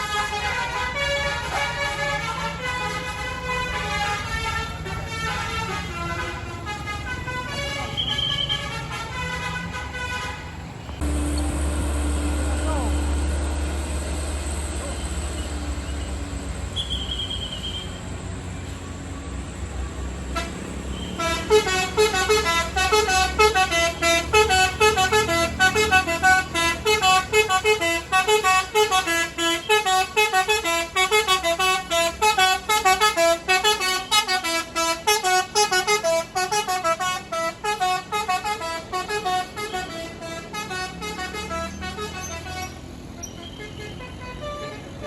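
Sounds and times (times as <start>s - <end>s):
musical bus horn melody: 0.0s - 18.2s, 20.2s - 45.0s.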